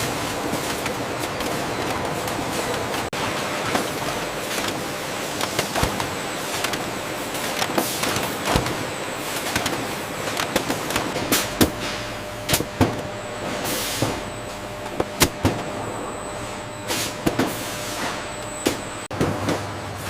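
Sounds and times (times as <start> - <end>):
factory machinery hissing: 0.0 - 19.0.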